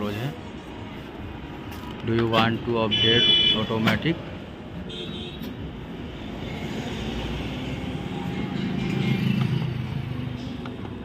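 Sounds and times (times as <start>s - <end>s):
traffic background: 0.0s - 11.0s.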